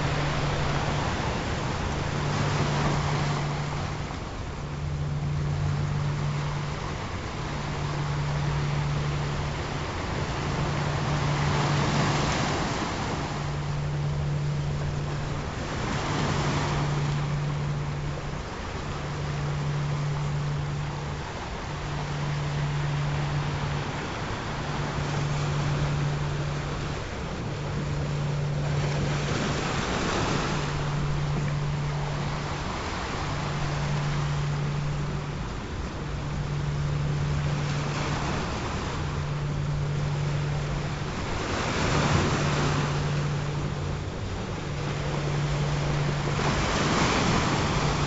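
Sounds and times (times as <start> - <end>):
ocean waves washing in: 0.0 - 48.0
steady low tone: 0.0 - 48.0.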